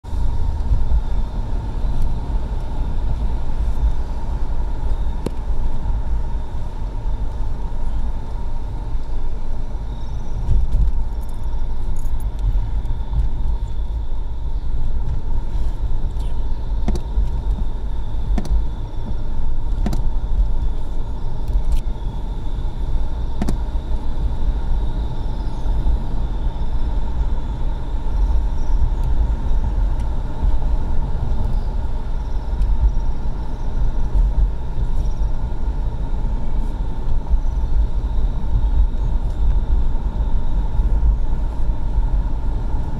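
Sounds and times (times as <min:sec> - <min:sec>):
engine and tyre rumble inside car: 0:00.0 - 0:42.9.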